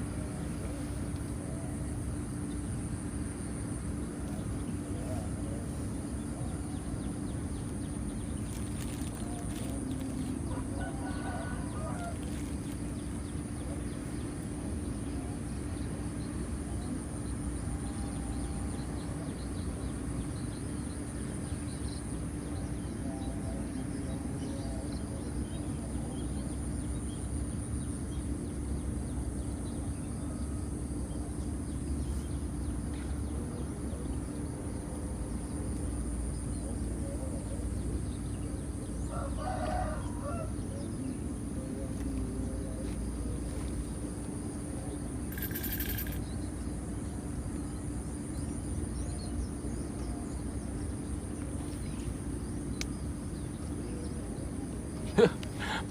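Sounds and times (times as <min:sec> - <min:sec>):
constant low hum: 0:00.0 - 0:55.9
high-pitched insect drone: 0:00.0 - 0:55.9.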